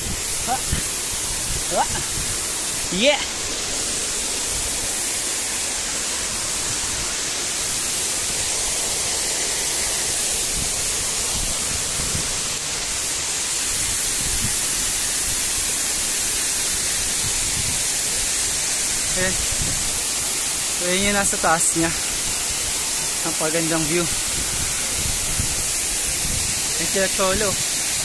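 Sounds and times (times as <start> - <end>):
stream and waterfall rushing: 0.0 - 28.0.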